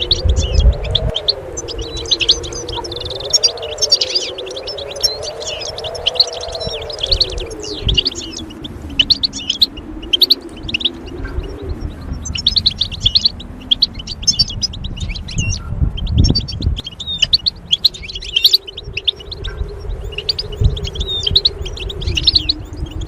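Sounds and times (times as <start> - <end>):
goldfinch twittering: 0.0 - 23.0
low wavering hum: 0.0 - 23.0.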